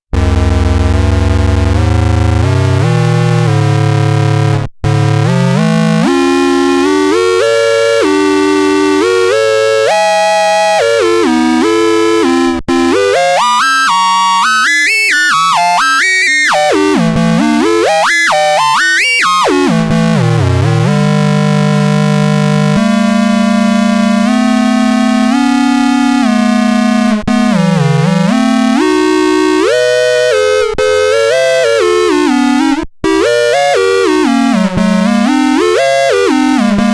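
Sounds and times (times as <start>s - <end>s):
buzzy synthesizer tones: 0.1s - 36.9s.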